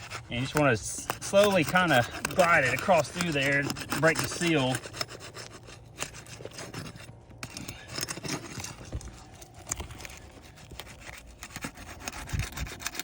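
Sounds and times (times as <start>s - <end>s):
flat bar scraping shingle: 0.0s - 13.0s.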